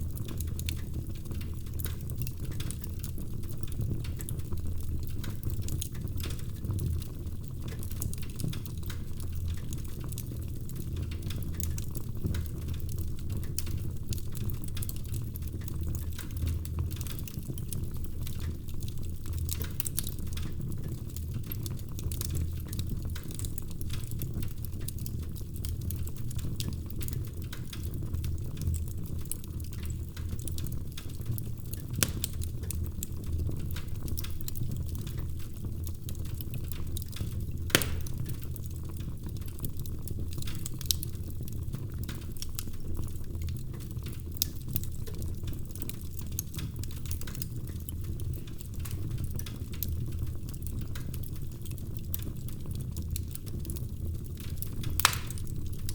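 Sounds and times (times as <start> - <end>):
wood fire crackling: 0.0 - 55.9
fire pops: 9.6 - 55.9.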